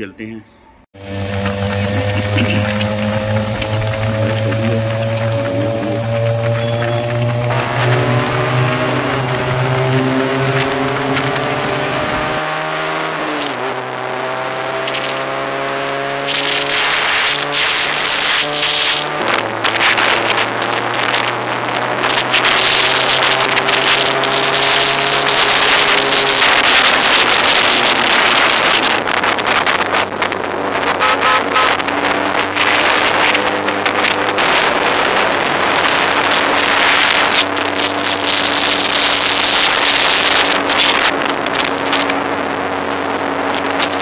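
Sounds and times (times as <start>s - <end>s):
motorcycle engine accelerating: 0.9s - 44.0s
wind rush on microphone: 1.0s - 13.6s, 16.1s - 44.0s.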